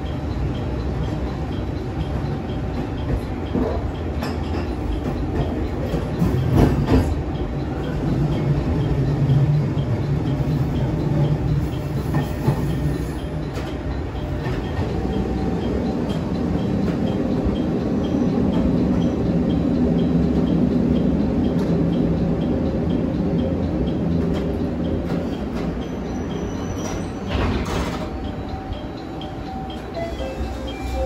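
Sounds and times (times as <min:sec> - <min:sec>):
railcar engine hum: 0:00.0 - 0:31.0.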